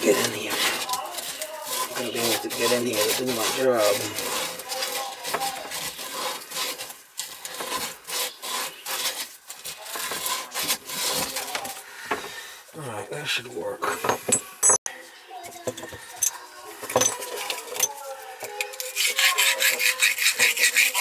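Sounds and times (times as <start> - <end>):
metal scraping: 0.0 - 12.4, 15.6 - 21.0.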